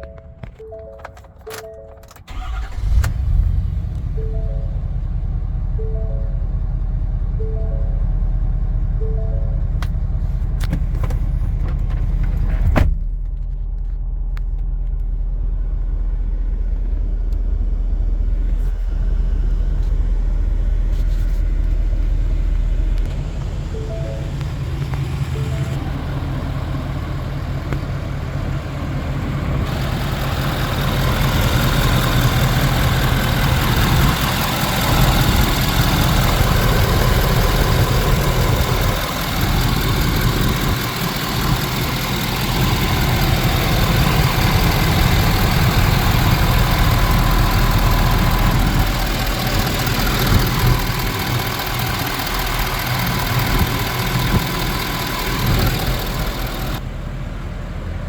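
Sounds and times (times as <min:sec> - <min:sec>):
diesel truck engine idling: 0:02.3 - 0:12.2, 0:14.6 - 0:58.0.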